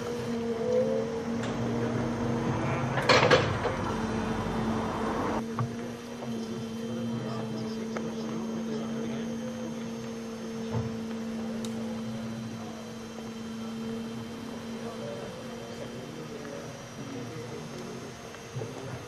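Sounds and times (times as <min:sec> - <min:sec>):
low hum with higher tone: 0:00.0 - 0:19.0.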